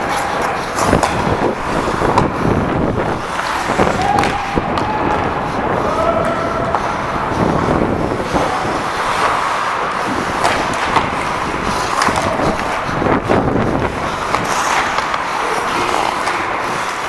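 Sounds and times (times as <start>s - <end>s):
wind rushing over microphone: 0.0s - 15.1s
ice skates scraping: 0.0s - 17.0s.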